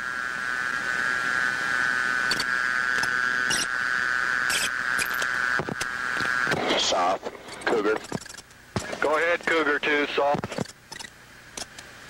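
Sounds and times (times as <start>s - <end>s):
high-pitched radio whine: 0.0s - 12.0s
static crackles: 0.0s - 12.0s.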